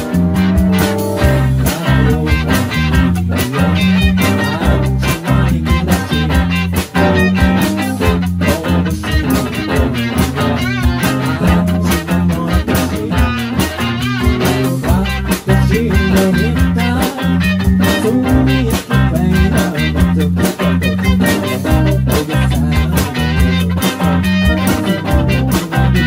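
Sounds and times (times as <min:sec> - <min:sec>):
bass line: 0:00.0 - 0:26.0
drum beat: 0:00.0 - 0:26.0
electric guitar: 0:00.0 - 0:26.0.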